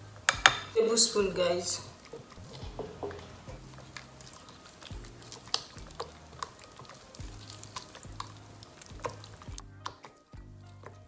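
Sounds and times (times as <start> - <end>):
soft background music: 0.0 - 11.0
spoon scraping glass bowl: 1.8 - 11.0.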